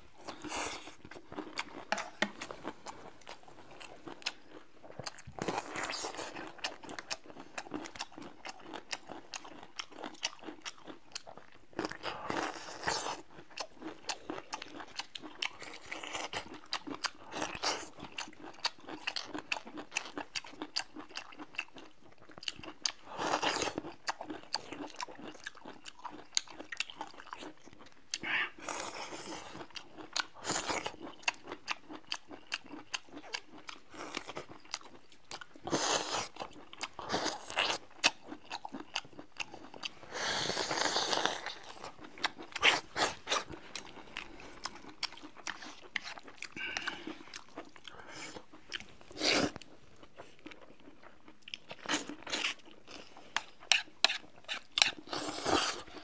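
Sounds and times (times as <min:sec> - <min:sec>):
crunchy chewing: 0:00.2 - 0:56.0.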